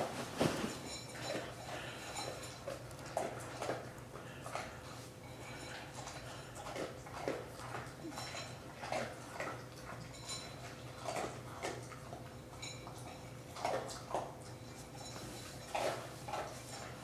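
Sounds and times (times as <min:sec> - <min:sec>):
dog crunching food: 0:01.2 - 0:17.0.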